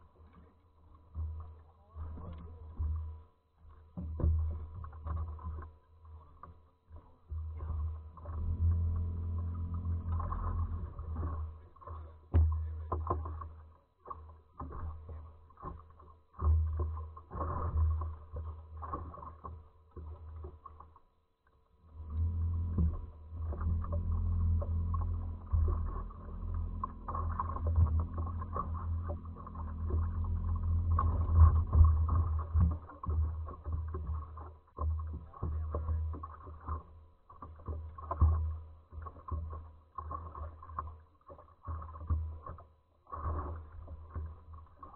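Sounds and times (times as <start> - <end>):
low rumble on microphone: 0.0 - 44.9.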